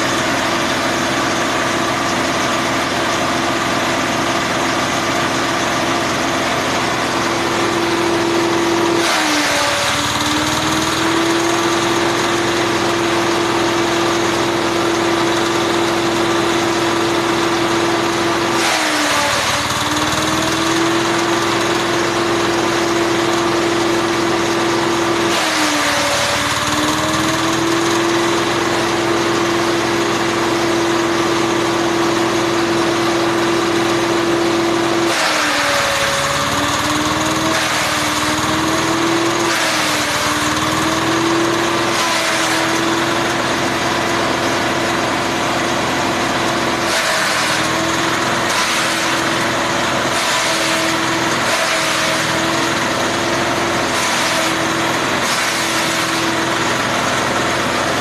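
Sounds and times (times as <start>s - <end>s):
chopper machine humming: 0.0s - 58.0s
shredding noise: 0.0s - 58.0s.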